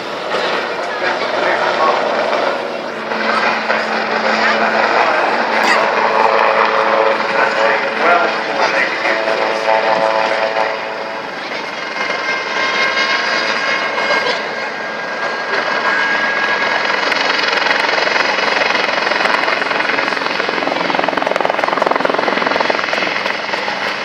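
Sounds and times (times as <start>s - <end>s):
helicopter rotor and engine noise: 0.0s - 24.0s.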